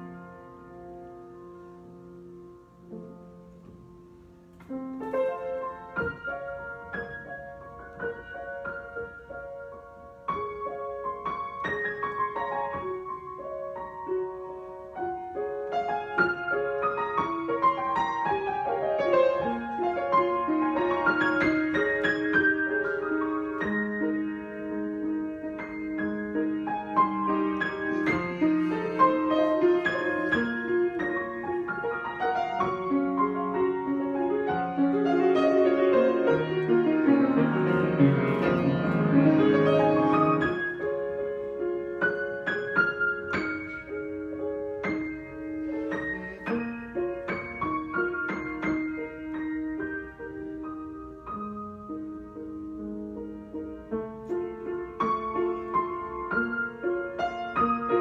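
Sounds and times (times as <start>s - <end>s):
solo piano playing: 0.0s - 58.0s.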